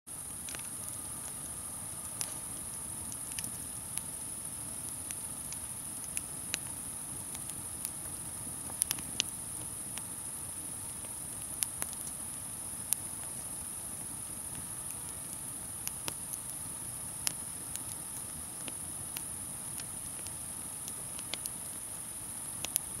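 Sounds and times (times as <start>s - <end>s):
steady high hiss: 0.1s - 23.0s
campfire crackling and popping: 0.2s - 23.0s.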